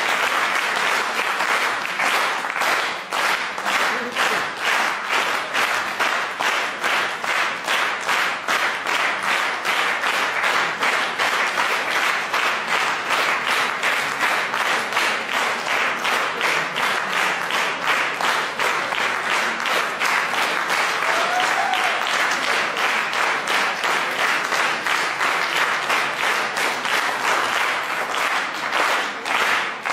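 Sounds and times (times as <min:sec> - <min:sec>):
audience applauding: 0:00.0 - 0:29.9.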